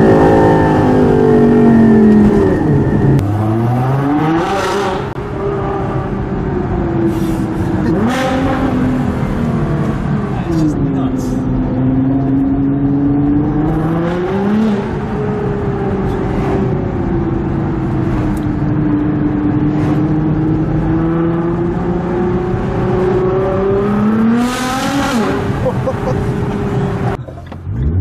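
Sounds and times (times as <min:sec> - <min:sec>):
car engine from inside cabin: 0:00.0 - 0:28.0.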